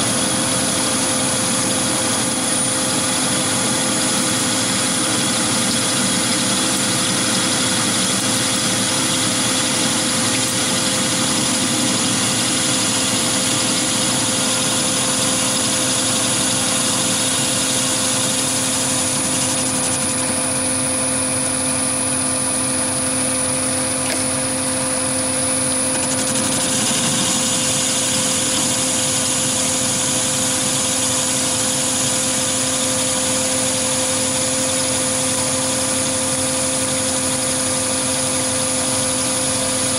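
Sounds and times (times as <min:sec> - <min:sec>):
lathe humming with high whine: 0:00.0 - 0:39.9.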